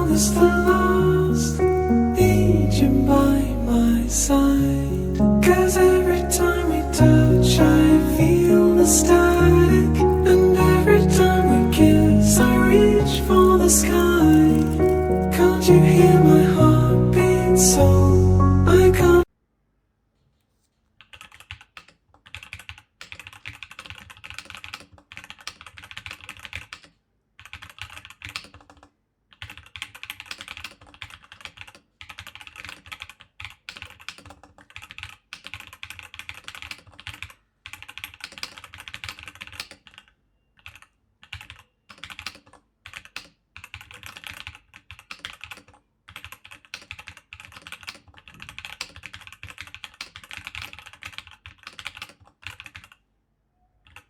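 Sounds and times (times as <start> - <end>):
mechanical keyboard typing: 0.0 - 16.7, 21.0 - 53.0, 53.8 - 54.0.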